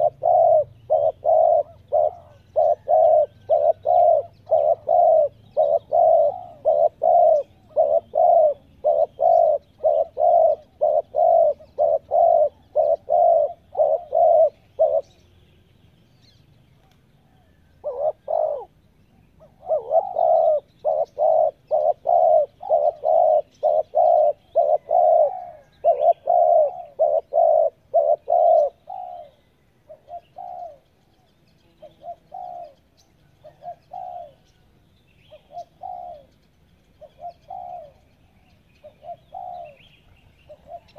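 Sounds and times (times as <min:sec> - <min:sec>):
dove cooing: 0:00.0 - 0:15.3, 0:16.3 - 0:31.0, 0:31.6 - 0:34.6, 0:35.2 - 0:40.9.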